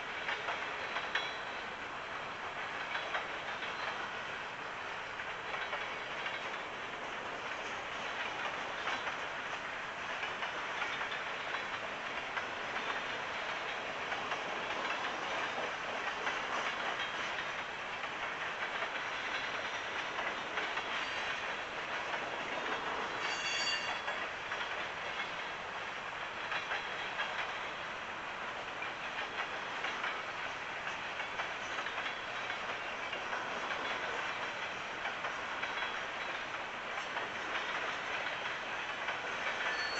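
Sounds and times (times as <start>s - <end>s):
clacking over rail joints: 0.0s - 39.9s
steel wheels rumbling on rail: 0.0s - 39.9s.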